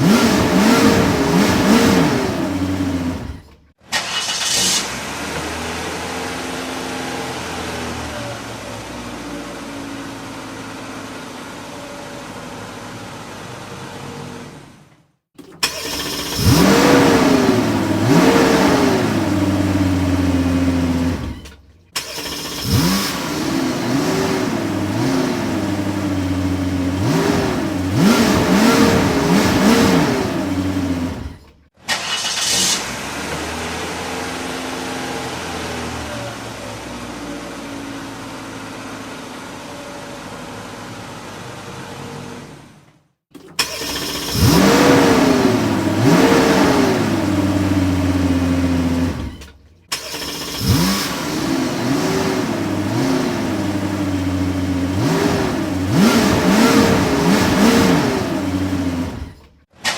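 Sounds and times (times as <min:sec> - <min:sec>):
car engine idling and revving: 0:00.0 - 0:59.7.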